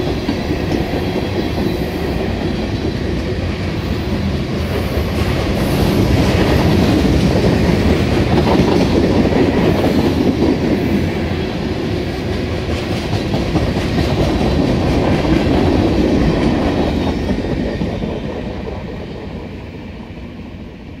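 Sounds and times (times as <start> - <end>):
freight train cars rolling: 0.0 - 21.0.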